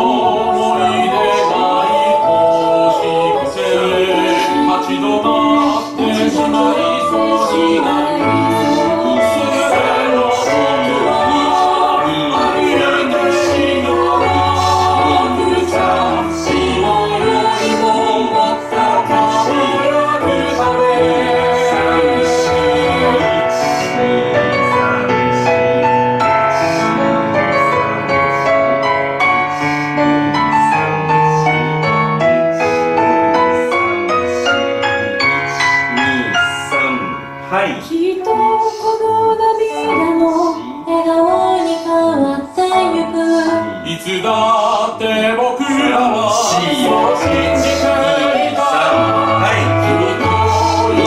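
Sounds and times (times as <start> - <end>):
mixed choir singing pop song: 0.0 - 51.0
piano accompaniment: 0.0 - 51.0.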